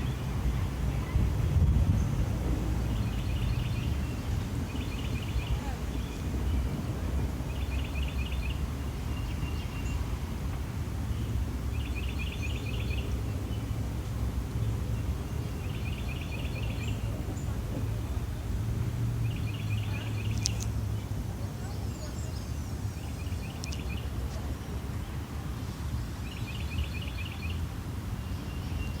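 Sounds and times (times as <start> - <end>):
low outdoor rumble: 0.0 - 29.0
songbird singing: 0.0 - 29.0.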